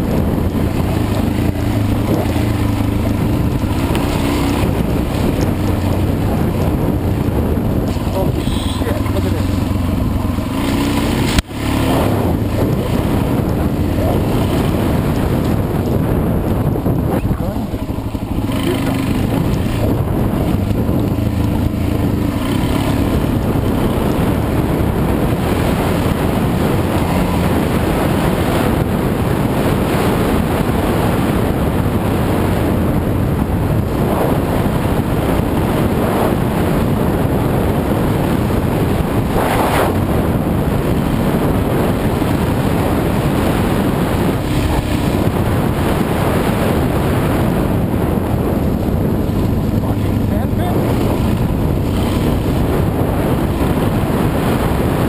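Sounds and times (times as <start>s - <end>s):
dirt bike engine running: 0.0s - 55.0s
wind buffeting microphone: 0.0s - 55.0s.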